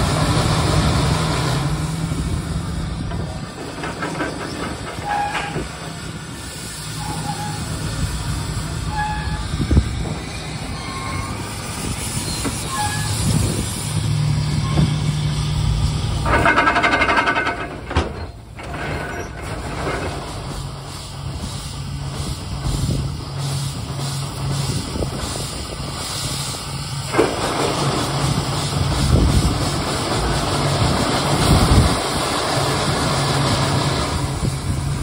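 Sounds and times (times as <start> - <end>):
steam hiss blasts: 0.0 - 16.2, 20.0 - 35.0
steam engines running: 0.0 - 35.0.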